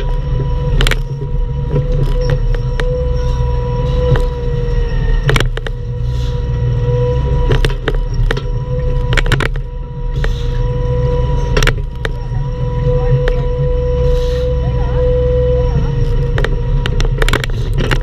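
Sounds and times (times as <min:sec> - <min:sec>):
mini excavator engine rumbling: 0:00.0 - 0:18.0.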